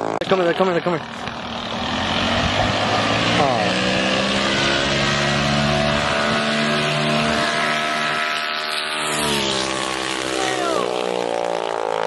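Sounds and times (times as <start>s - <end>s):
minibike engine revving: 0.0s - 12.0s.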